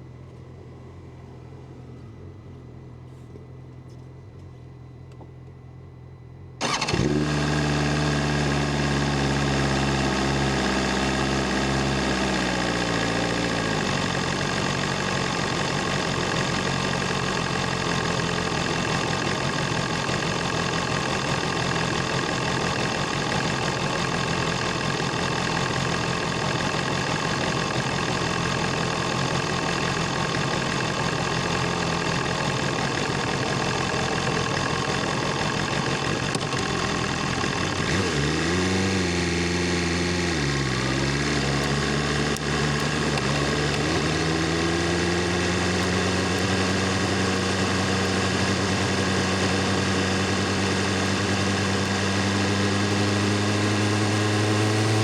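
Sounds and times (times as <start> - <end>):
motorcycle engine revving: 6.6 - 55.0.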